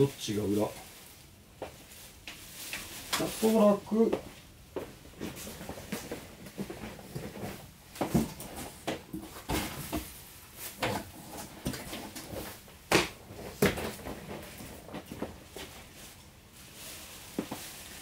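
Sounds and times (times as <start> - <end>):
fabric rustling: 0.0 - 8.8, 12.0 - 18.0.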